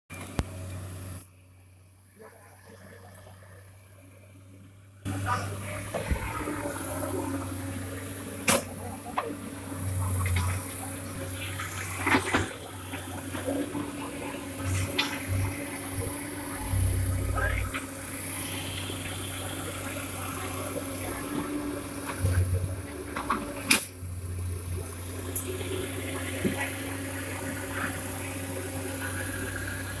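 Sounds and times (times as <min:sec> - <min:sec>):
truck engine running: 0:02.2 - 0:30.0.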